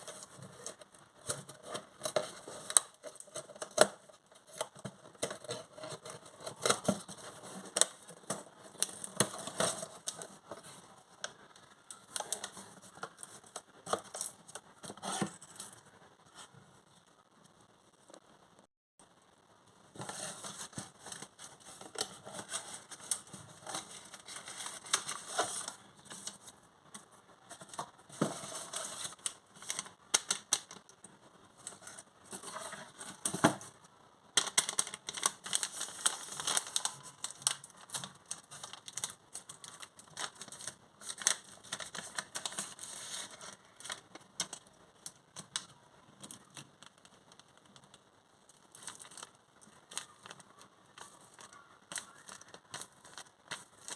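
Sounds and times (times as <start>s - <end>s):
crinkly packaging crackling: 0.0s - 16.5s, 19.9s - 53.9s.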